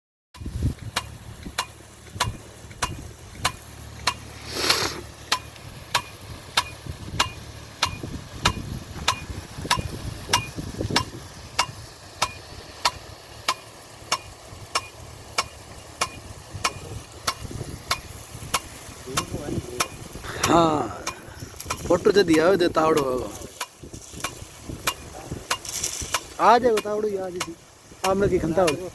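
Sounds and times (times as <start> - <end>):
hiss of water jet: 0.4 - 28.9
sprinkler arm clacking: 0.4 - 28.9.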